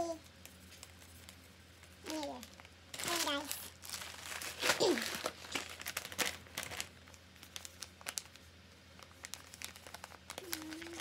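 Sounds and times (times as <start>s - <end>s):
wrapping paper crinkling: 0.0s - 11.0s.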